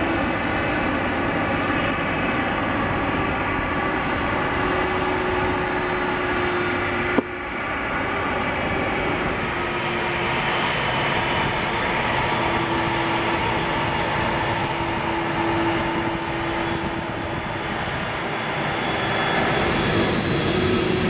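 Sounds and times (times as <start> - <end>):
jet engines at taxi power: 0.0 - 21.0.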